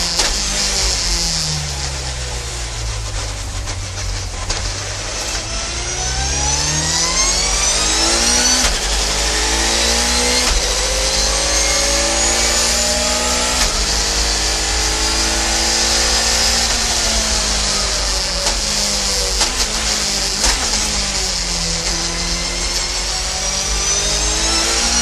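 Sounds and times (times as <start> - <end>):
gear shifts: 0.0 - 25.0
race car engine accelerating: 0.0 - 25.0.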